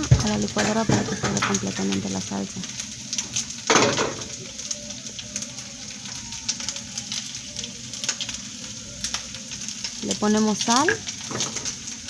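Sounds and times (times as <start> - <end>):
crackling ticks from a pot: 0.0 - 12.0
water pouring into a pot: 0.0 - 12.0.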